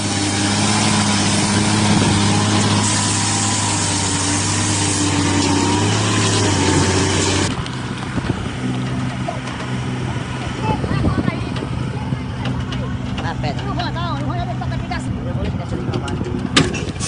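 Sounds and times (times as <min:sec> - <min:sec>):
quieter engine running: 0:00.0 - 0:17.0
truck diesel engine droning: 0:00.0 - 0:17.0.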